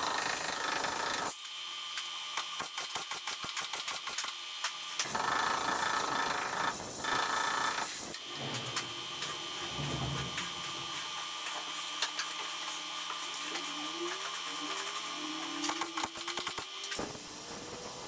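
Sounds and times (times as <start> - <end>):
welder welding: 0.0 - 18.0.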